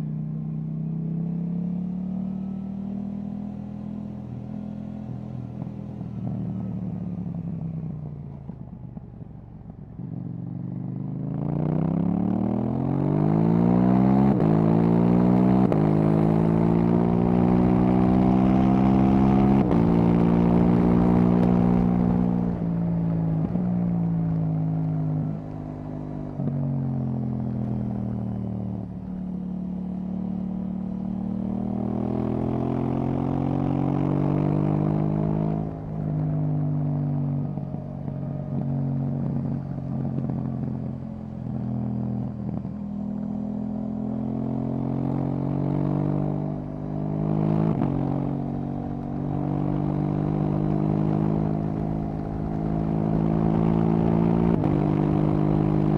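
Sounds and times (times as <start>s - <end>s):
motorcycle engine revving: 10.3s - 55.9s.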